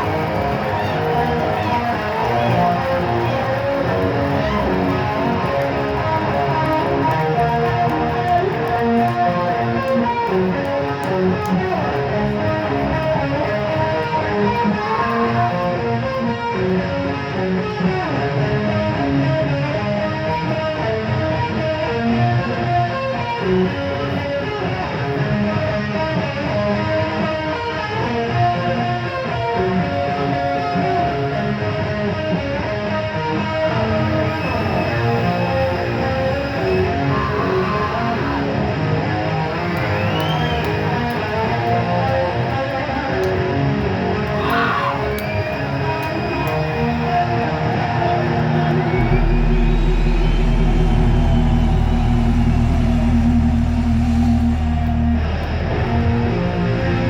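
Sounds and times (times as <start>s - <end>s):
heavy metal band playing live: 0.0s - 57.0s
sliding electric guitar lead: 0.0s - 57.0s.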